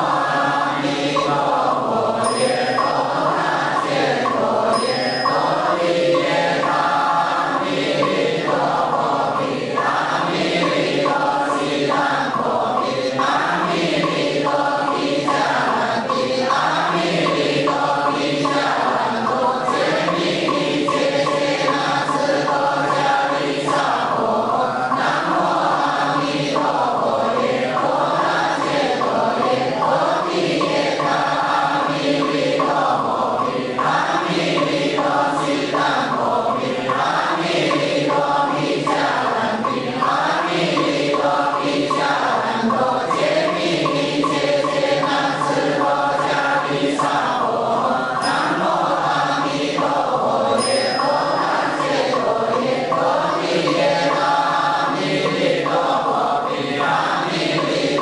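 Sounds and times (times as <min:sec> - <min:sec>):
group of voices chanting: 0:00.0 - 0:58.0.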